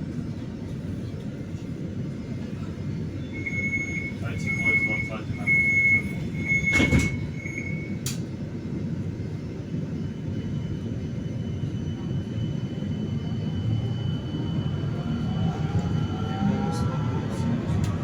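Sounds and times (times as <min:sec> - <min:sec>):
tram interior rumble: 0:00.0 - 0:18.0.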